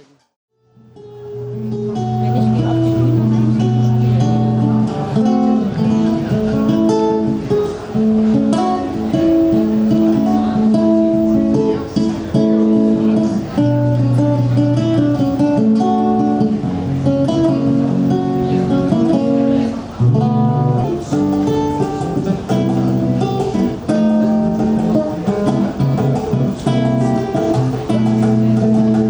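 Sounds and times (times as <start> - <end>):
acoustic guitar chords: 0.6 - 29.0.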